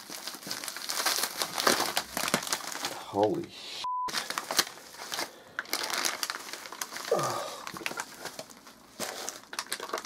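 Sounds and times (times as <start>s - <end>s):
bubble wrap and plastic rustling: 0.0s - 3.5s, 4.1s - 10.0s.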